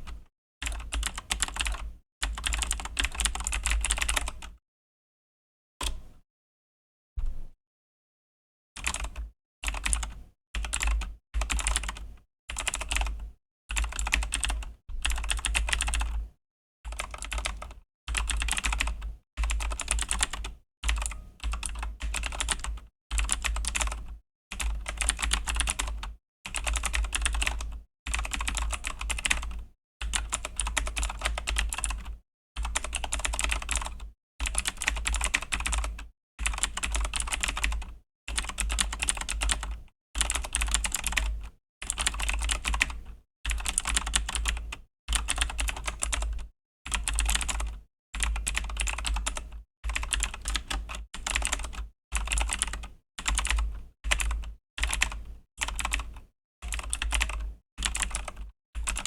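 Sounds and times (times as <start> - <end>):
mechanical keyboard typing: 0.0 - 4.5, 8.8 - 16.2, 16.9 - 59.0.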